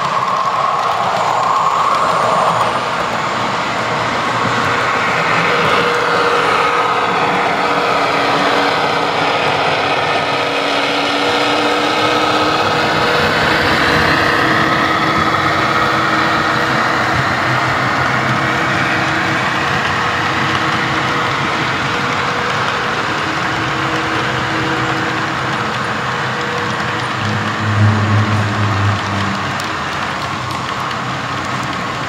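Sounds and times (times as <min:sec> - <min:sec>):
model train diesel engine sound: 0:00.0 - 0:32.0.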